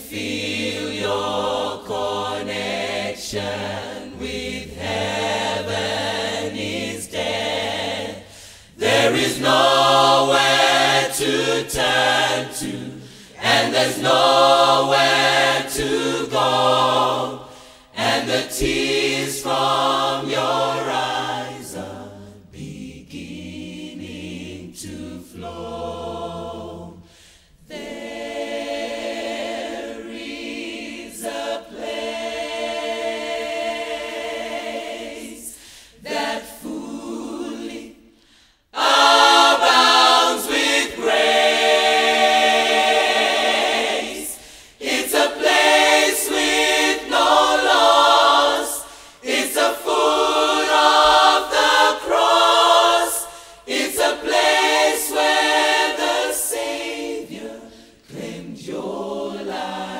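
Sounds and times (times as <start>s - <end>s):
gospel choir singing: 0.0s - 59.9s.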